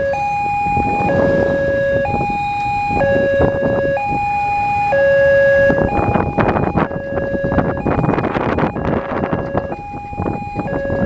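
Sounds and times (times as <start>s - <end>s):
road traffic noise: 0.0s - 11.0s
two-tone crossing alarm: 0.0s - 11.0s.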